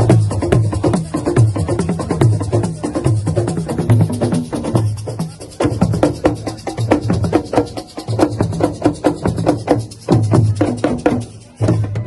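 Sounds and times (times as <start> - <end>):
fast hand drumming: 0.0 - 12.0.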